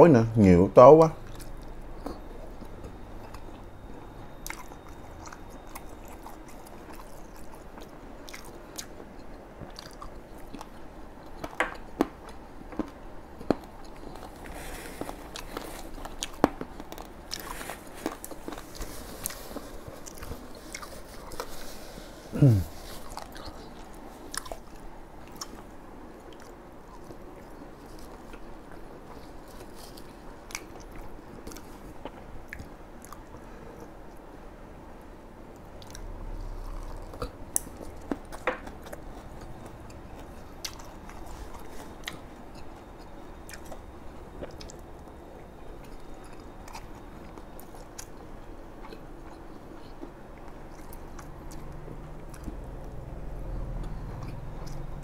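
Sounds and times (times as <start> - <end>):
chewing and crunching food: 1.1 - 34.4, 35.0 - 55.0.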